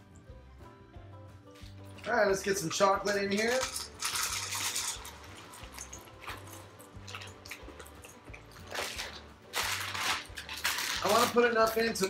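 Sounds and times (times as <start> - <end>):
quiet background music: 0.0 - 12.0
plastic bag rustling: 1.6 - 12.0
chocolate chips pattering into saucepan: 1.9 - 12.0.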